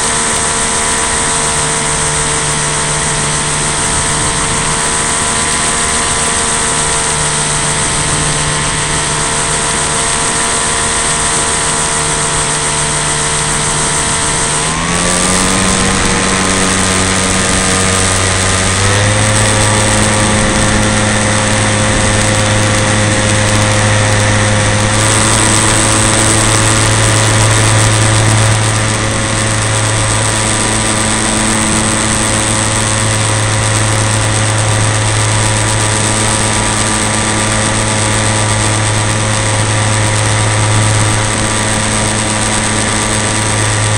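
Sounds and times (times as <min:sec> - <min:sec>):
model plane engine: 0:00.0 - 0:43.9
rush of air: 0:00.1 - 0:43.9.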